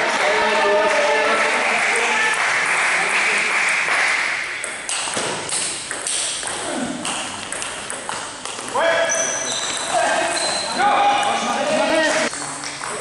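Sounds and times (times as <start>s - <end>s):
voices and hall noise: 0.0s - 13.0s.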